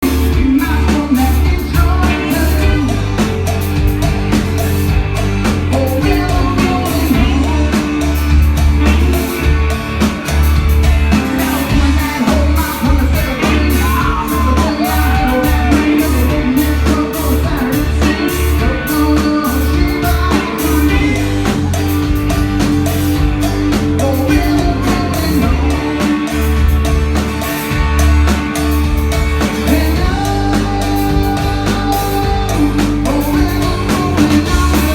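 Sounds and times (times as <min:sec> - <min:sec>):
rock band with singing: 0:00.0 - 0:34.9.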